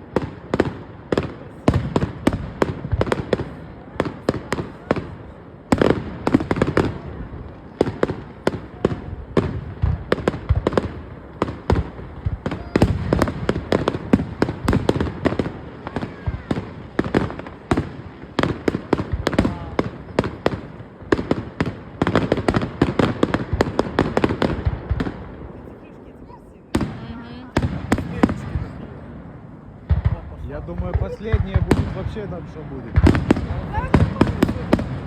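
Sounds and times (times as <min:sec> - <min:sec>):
fireworks booming and cracking: 0:00.0 - 0:35.0.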